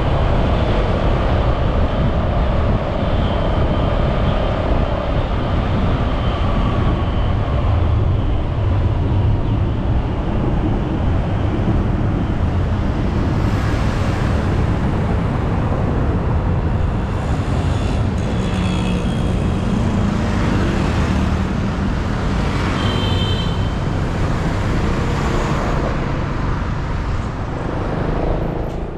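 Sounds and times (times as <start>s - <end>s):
city traffic: 0.0s - 28.9s.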